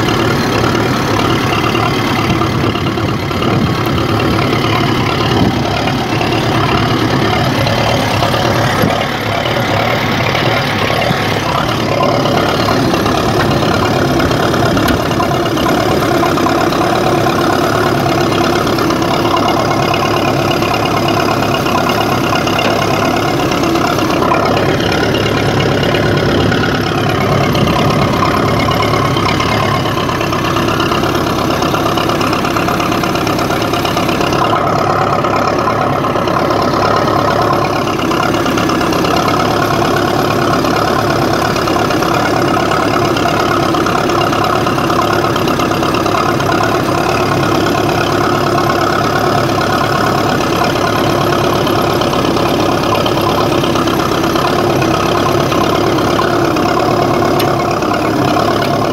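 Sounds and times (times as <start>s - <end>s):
tractor engine running under load: 0.0s - 58.9s.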